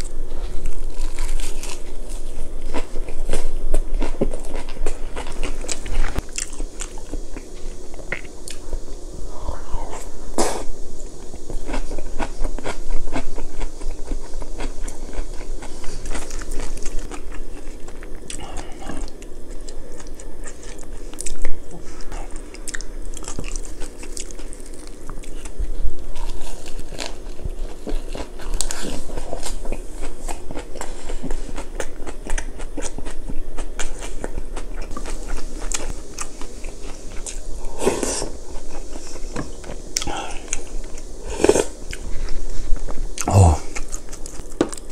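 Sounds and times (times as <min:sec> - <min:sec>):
chewing and crunching food: 0:00.0 - 0:09.1, 0:11.0 - 0:44.9.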